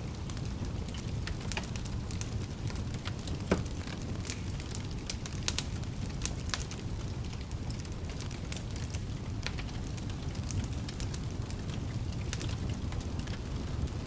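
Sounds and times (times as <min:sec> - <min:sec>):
low rumble of flames: 0:00.0 - 0:14.0
wood fire snaps and pops: 0:00.0 - 0:14.0.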